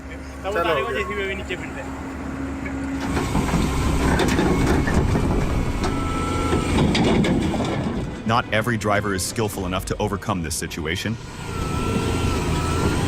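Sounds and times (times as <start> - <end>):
heavy vehicle engine under load: 0.0 - 10.4, 11.1 - 13.0.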